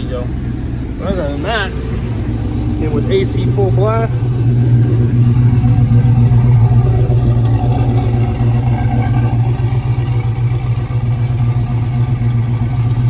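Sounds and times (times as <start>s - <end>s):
aggressive engine idling: 0.0s - 13.0s.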